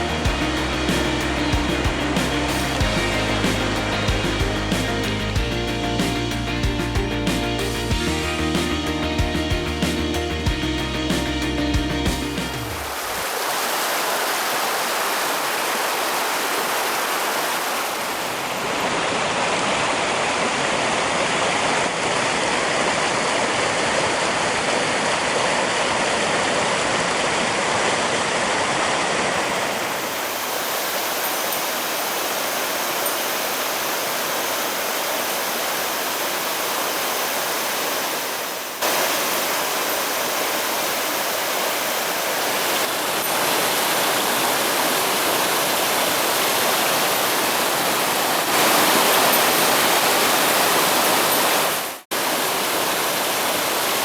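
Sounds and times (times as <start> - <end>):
stream rushing over rocks: 0.0 - 6.8, 12.4 - 54.0.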